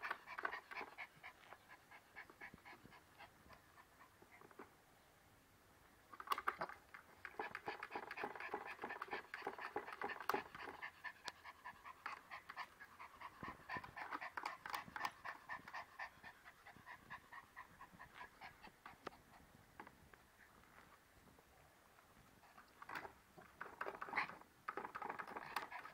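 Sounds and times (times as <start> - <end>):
small dog panting rapidly: 0.0 - 4.7, 7.1 - 19.7, 22.3 - 25.9.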